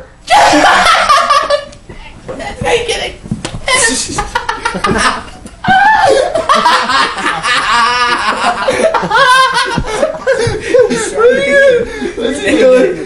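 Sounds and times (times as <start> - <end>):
young people laughing and chattering: 0.6 - 13.0.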